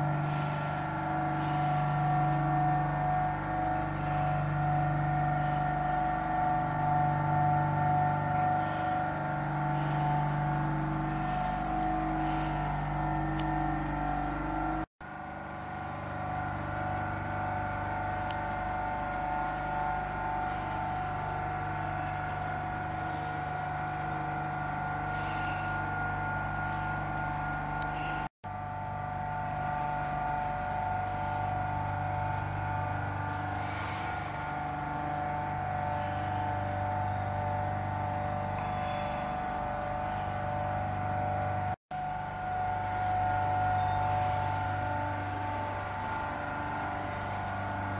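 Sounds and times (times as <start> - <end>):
industrial machinery hum: 0.0 - 47.9.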